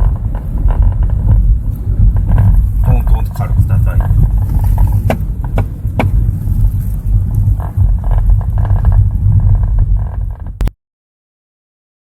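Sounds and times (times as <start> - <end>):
trim ticking and creaking: 0.0 - 10.7
van road and engine rumble: 0.0 - 10.7.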